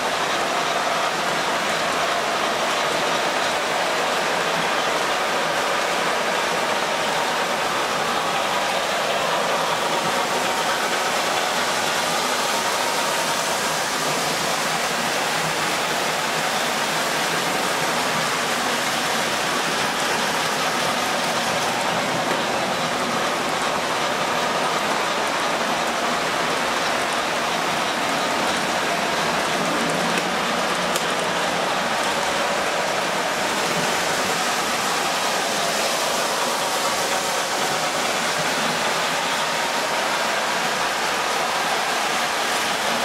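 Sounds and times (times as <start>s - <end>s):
model train wheels rolling on rails: 0.0s - 43.0s.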